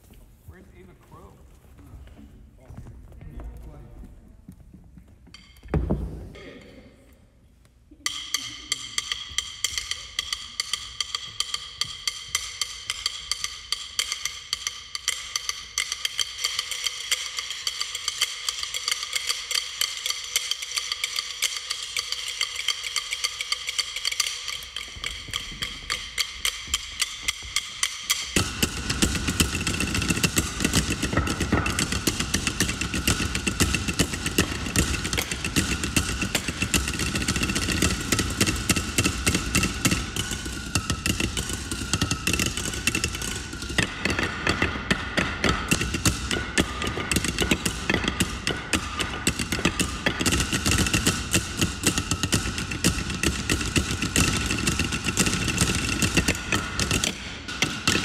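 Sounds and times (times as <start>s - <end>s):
drumsticks clicking on wooden stools: 8.4s - 58.0s.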